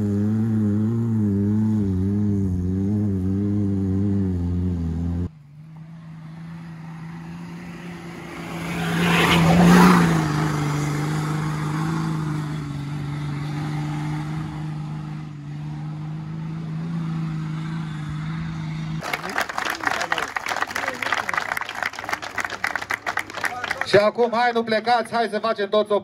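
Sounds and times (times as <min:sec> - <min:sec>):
off-road vehicle engine running: 0:00.0 - 0:24.0
vehicle passing close by: 0:00.0 - 0:24.0.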